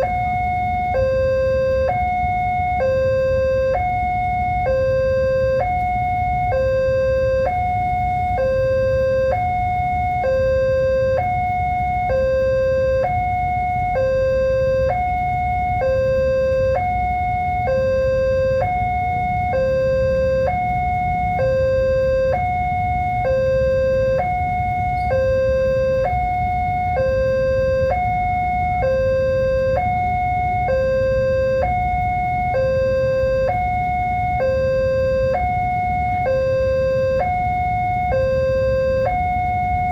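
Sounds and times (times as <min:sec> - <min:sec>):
constant low rumble: 0:00.0 - 0:39.9
level-crossing two-tone alarm: 0:00.0 - 0:39.9.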